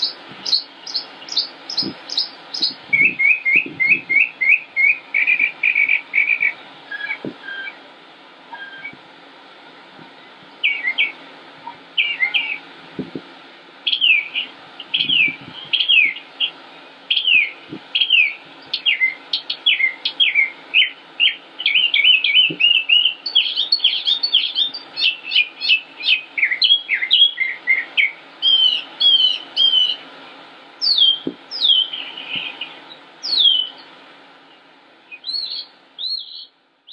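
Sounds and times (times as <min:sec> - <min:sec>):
songbird whistling: 0:00.0 - 0:07.8, 0:08.5 - 0:09.0, 0:10.2 - 0:12.6, 0:13.9 - 0:16.3, 0:17.1 - 0:30.0, 0:30.8 - 0:33.8, 0:35.1 - 0:36.9.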